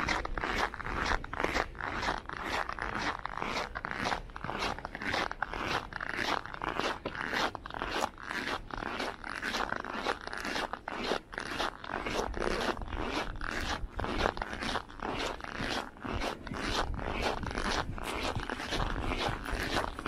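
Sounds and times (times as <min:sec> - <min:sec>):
footsteps crunching on snow: 0:00.0 - 0:20.0.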